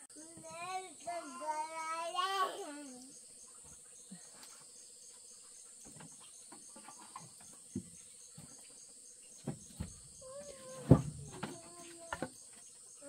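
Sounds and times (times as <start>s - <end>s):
insect chirping: 0.1s - 13.0s.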